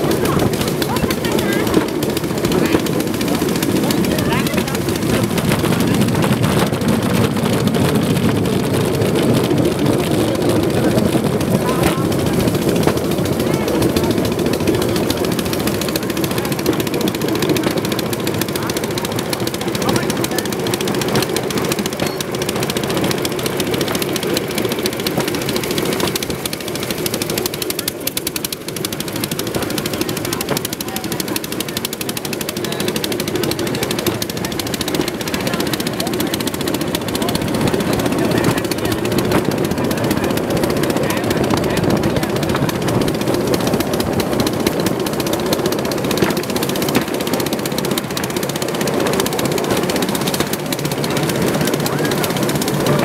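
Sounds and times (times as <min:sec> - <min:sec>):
small engine chattering: 0:00.0 - 0:53.0
train rumbling on rails: 0:00.0 - 0:53.0.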